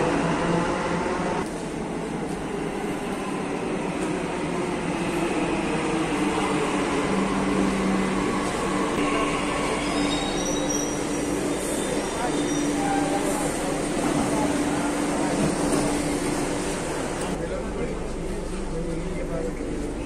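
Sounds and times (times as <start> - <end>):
train rumbling into station: 0.0 - 20.0.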